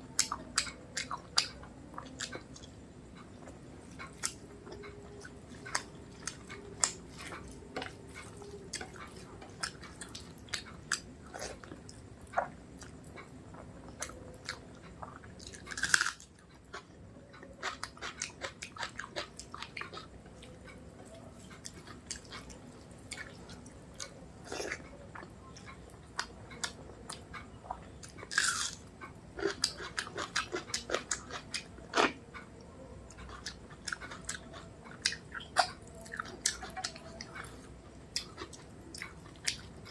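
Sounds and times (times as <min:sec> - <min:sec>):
close chewing and mouth clicks: 0:00.1 - 0:39.9.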